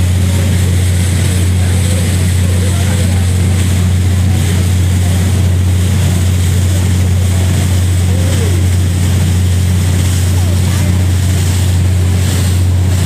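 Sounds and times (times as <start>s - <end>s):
ferry engines droning: 0.0s - 13.0s.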